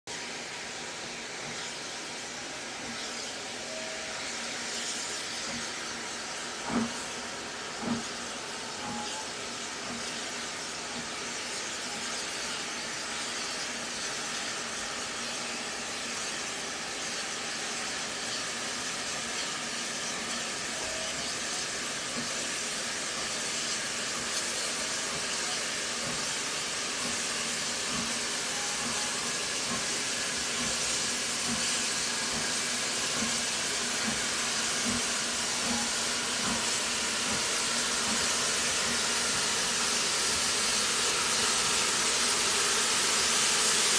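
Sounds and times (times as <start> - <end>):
steam locomotive hissing: 0.1 - 43.9.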